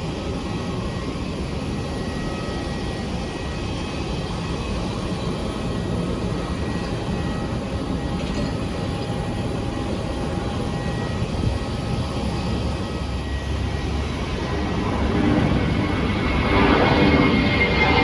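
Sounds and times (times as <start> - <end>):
airliner engines rumbling: 0.0 - 18.0
faint steady whine: 0.0 - 18.0.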